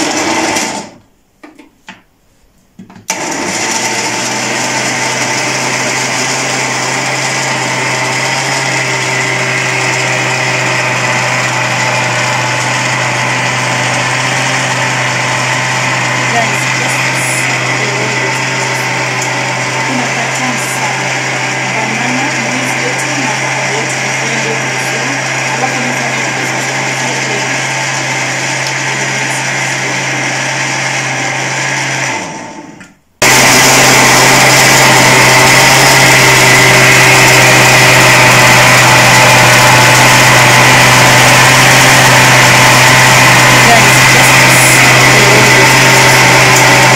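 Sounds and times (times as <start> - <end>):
blender running: 0.0 - 1.1, 3.1 - 46.9.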